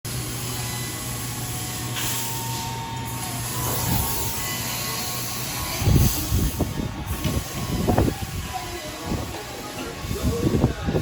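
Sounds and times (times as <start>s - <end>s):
ceiling fan motor hum: 0.1s - 11.0s.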